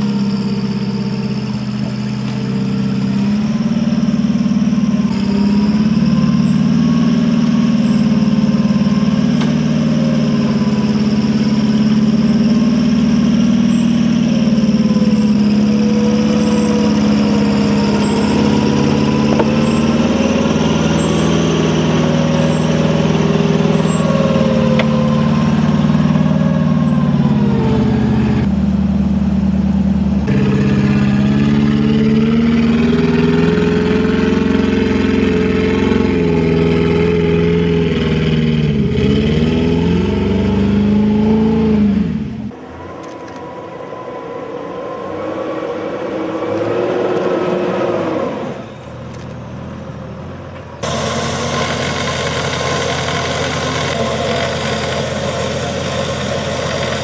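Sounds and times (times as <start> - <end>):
engine running under load: 0.0 - 57.0.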